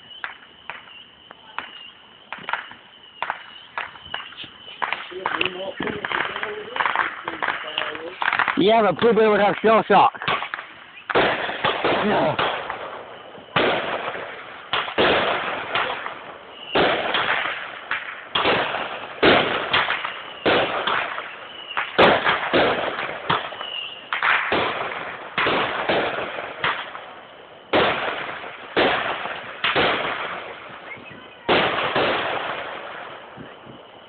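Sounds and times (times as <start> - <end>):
fireworks banging: 0.0 - 34.0.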